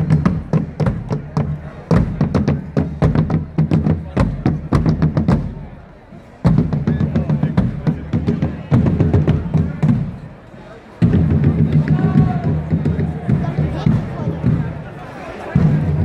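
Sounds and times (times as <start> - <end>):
marching field drums and bass drums: 0.0 - 16.0.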